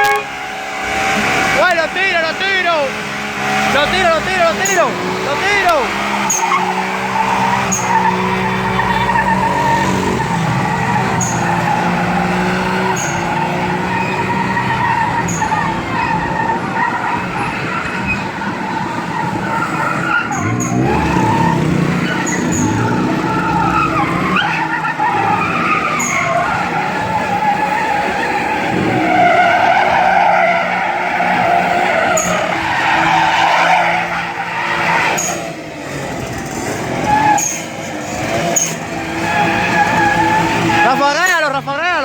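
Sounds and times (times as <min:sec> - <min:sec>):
tires squealing: 0:00.0 - 0:42.0
truck engine running hard: 0:00.0 - 0:42.0.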